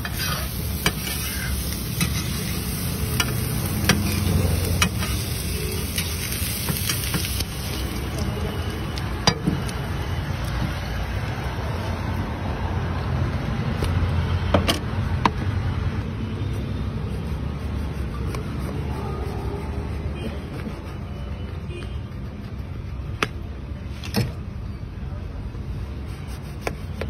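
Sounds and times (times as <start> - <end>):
low rumble of street stalls: 0.0 - 27.0.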